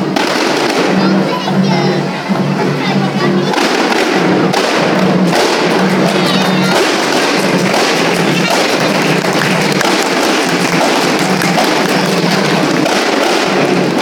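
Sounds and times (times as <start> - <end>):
hand frame drums playing fast: 0.0 - 14.0.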